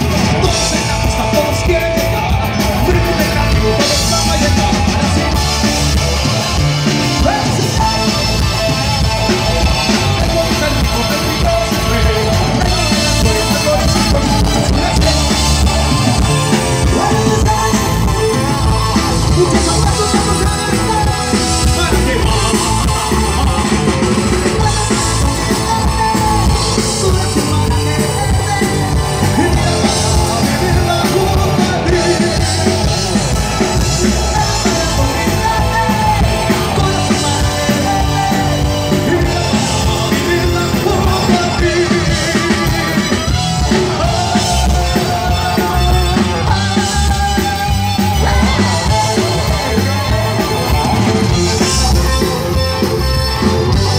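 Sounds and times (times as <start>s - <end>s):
live rock band playing: 0.0s - 53.9s
person singing: 0.0s - 53.9s.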